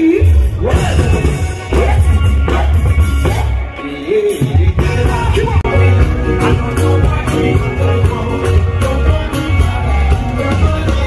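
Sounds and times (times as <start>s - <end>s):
drums: 0.0s - 11.0s
man singing: 0.0s - 11.0s
pulsing bass line: 0.4s - 3.7s, 4.6s - 11.0s.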